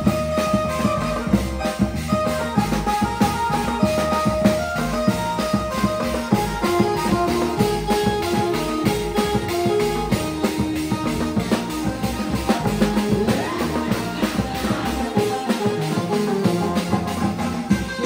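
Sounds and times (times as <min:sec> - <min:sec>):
music with steady drum beat: 0:00.0 - 0:18.0.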